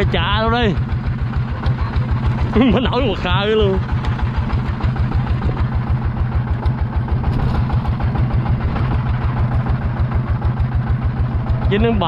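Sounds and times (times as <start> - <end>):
boat engine low pulsing: 0.0 - 12.0.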